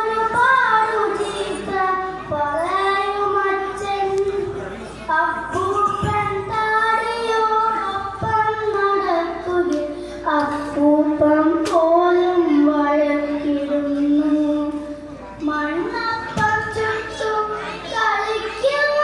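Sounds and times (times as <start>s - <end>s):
boy chanting through a microphone: 0.0s - 19.0s.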